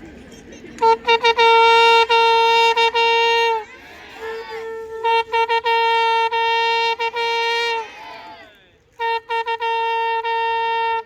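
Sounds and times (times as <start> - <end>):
conch shell blown: 0.8 - 8.2, 8.9 - 11.0.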